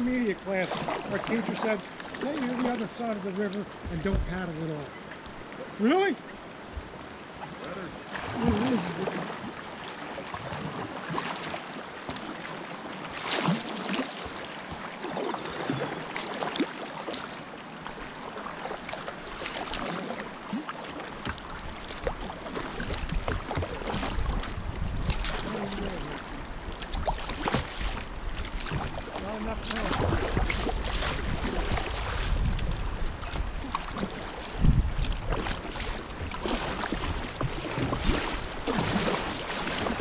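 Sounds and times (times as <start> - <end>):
paddle splashes in water: 0.0 - 40.0
river current flowing: 0.0 - 40.0.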